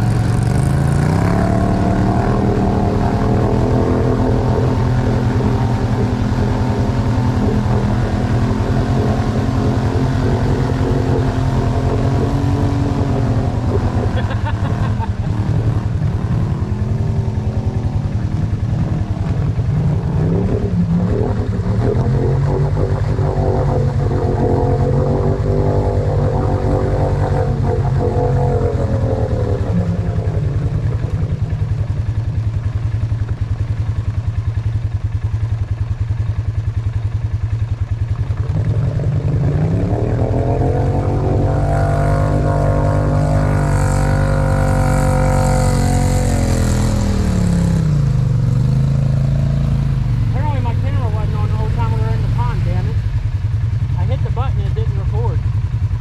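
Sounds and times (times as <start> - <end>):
quad bike engine revving: 0.0 - 56.0
water churning: 0.0 - 56.0.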